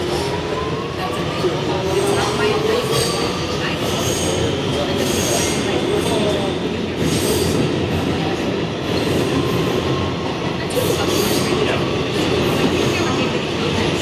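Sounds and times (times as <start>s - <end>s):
wheels rattling on rail: 0.0s - 14.0s.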